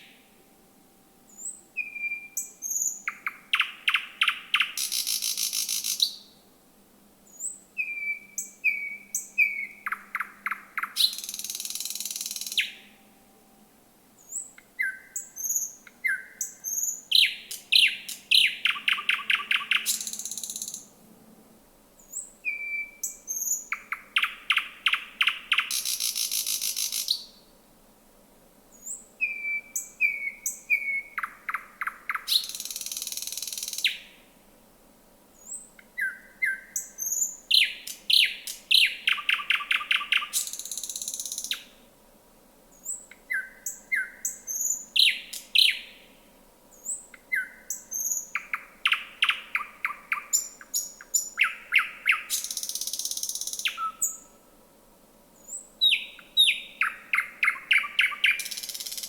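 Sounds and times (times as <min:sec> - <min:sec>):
nightingale singing: 0:00.0 - 0:00.5, 0:01.3 - 0:06.4, 0:07.2 - 0:13.4, 0:14.2 - 0:20.9, 0:22.0 - 0:27.5, 0:28.7 - 0:34.3, 0:35.4 - 0:41.8, 0:42.7 - 0:54.4, 0:55.4 - 0:59.0.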